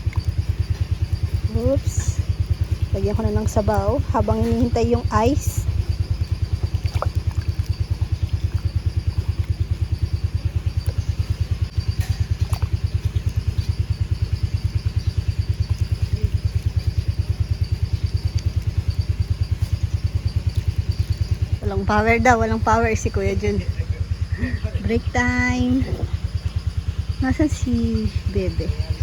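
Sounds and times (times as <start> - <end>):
small engine idling: 0.0 - 29.0.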